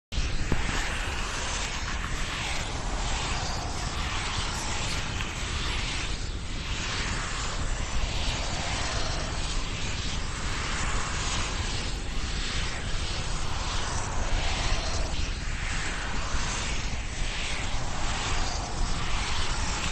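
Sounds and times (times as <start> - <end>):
distorted demonic rumbling noise: 0.1 - 19.9.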